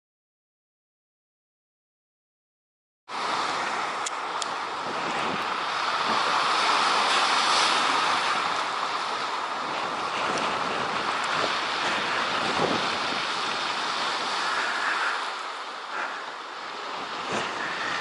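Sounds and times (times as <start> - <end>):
surf washing up shingle beach: 3.1 - 18.0.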